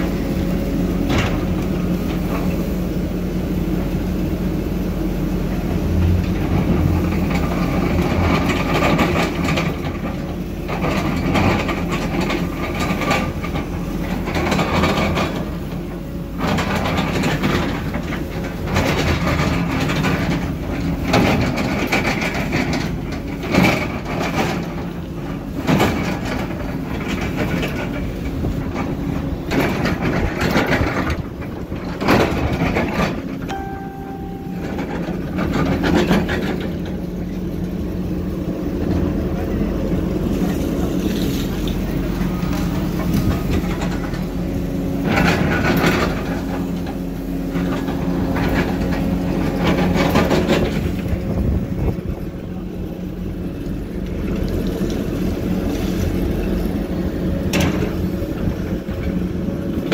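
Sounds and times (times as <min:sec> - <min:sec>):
heavy construction machinery running: 0:00.0 - 0:59.9.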